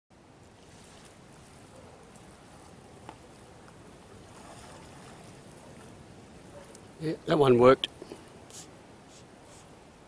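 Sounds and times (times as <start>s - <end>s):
water lapping at shore: 0.2s - 9.9s.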